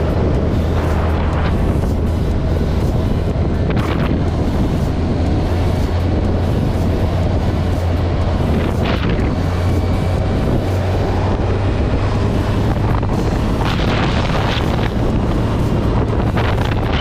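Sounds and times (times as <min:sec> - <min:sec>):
motorcycle engine droning: 0:00.0 - 0:17.0
wind buffeting microphone: 0:00.0 - 0:17.0.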